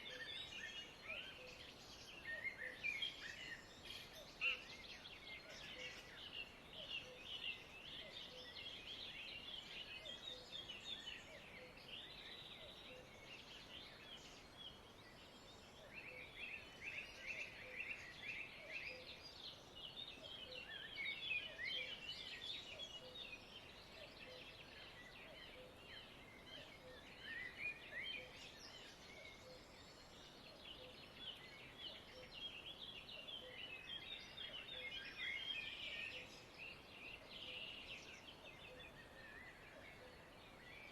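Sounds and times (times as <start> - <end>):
flock of birds twittering: 0.0 - 40.9.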